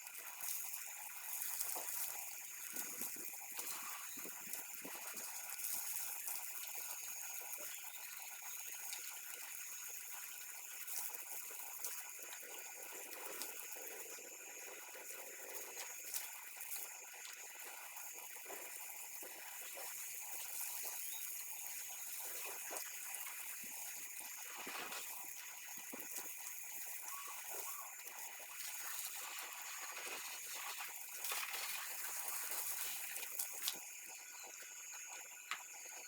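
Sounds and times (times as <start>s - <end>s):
hose spraying water: 0.0s - 36.0s.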